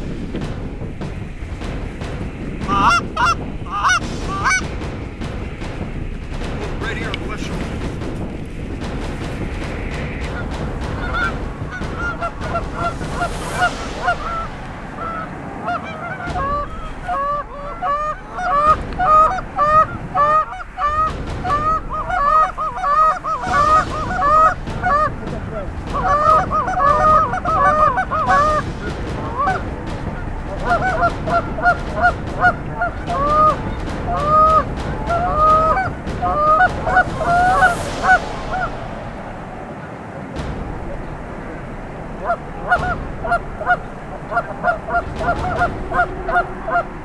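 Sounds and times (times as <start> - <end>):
geese honking: 1.3 - 8.0, 9.0 - 38.8, 42.2 - 47.0.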